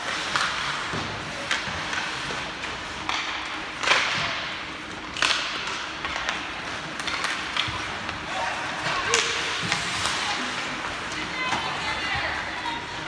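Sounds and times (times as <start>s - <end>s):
hockey sticks and puck clacking: 0.0s - 13.0s
skates scraping ice: 0.0s - 13.0s.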